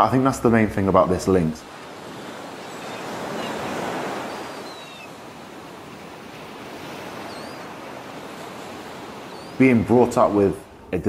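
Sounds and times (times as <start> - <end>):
sea surf washing on beach: 0.0 - 11.0.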